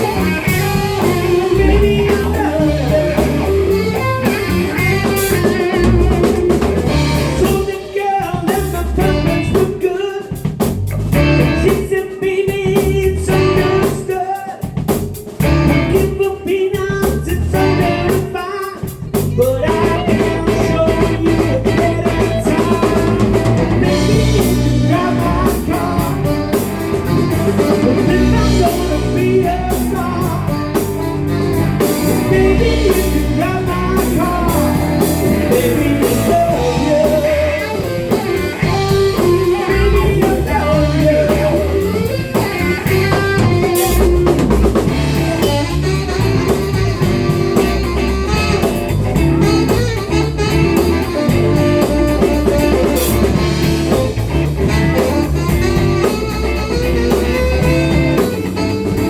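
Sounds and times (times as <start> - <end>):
rock band playing blues-rock: 0.0 - 59.0.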